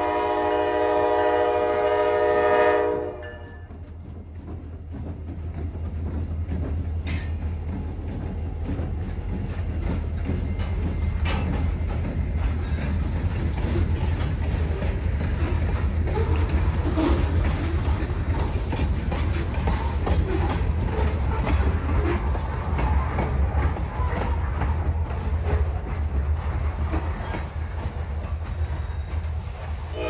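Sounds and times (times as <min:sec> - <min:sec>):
train wheels rumbling on rail: 0:00.0 - 0:30.0
clicks over rail joints: 0:03.6 - 0:28.7.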